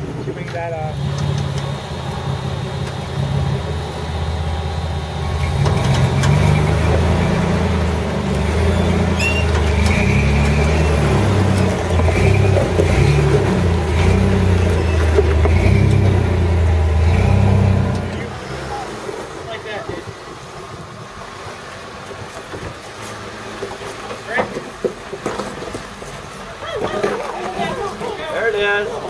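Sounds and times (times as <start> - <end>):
engine pulling under load: 0.0 - 29.0.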